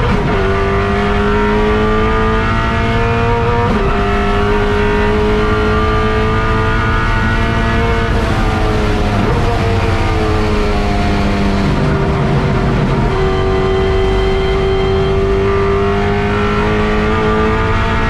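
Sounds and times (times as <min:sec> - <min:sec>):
racing engine at high revs: 0:00.0 - 0:18.0.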